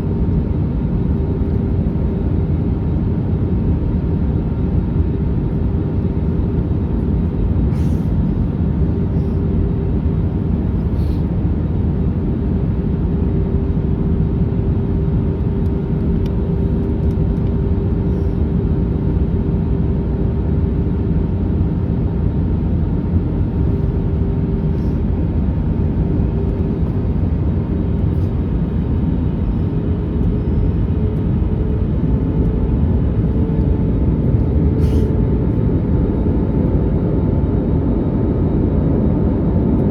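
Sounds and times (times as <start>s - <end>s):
faint steady hum: 0.0s - 38.7s
aircraft cabin rumble: 0.0s - 39.9s.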